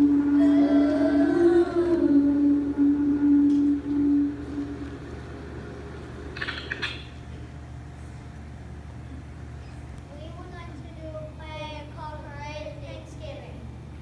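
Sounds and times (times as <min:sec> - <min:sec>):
low hum: 0:00.0 - 0:12.3.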